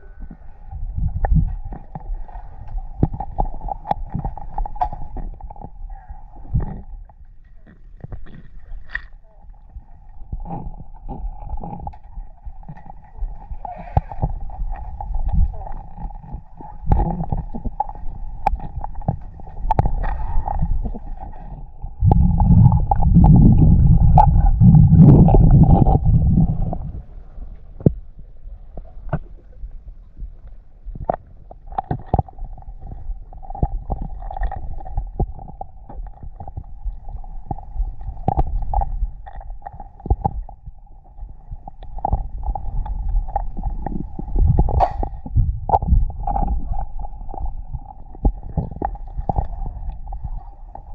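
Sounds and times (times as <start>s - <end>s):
gurgling water: 0.0s - 50.9s
low underwater rumbling: 0.0s - 50.9s.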